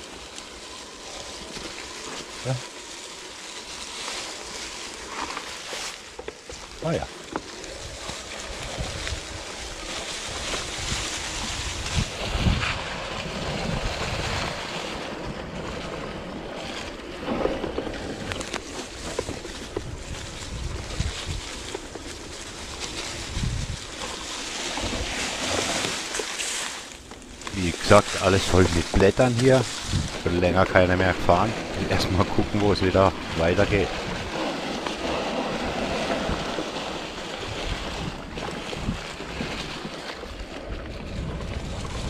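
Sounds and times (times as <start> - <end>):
tyres rolling over leaves: 0.0 - 42.0
wind on microphone: 6.7 - 26.4, 27.0 - 42.0.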